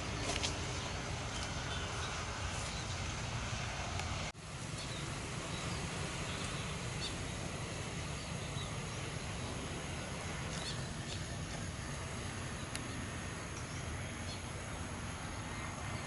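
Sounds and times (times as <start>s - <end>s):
steady outdoor rumble: 0.0s - 16.0s.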